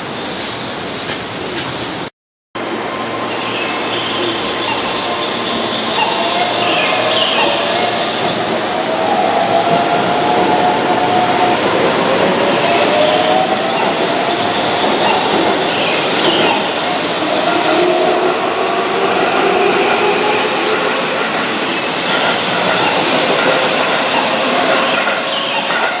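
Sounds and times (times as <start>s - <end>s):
train rail noise: 0.0s - 26.0s.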